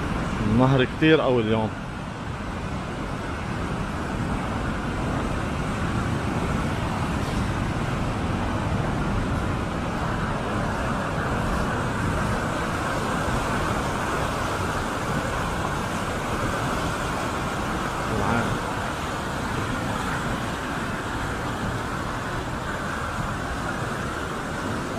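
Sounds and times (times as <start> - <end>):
river rushing over rocks: 0.0 - 24.9.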